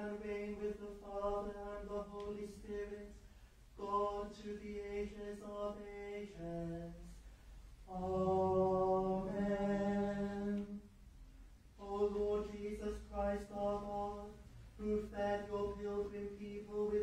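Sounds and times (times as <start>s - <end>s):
liturgical chant singing: 0.0s - 7.2s, 7.8s - 10.9s, 11.8s - 17.0s.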